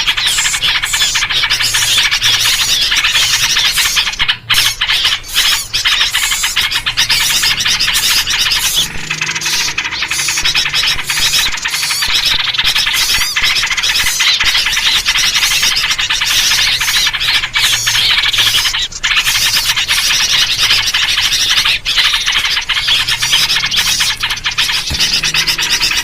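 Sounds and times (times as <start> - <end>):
small birds chattering: 0.0 - 26.0.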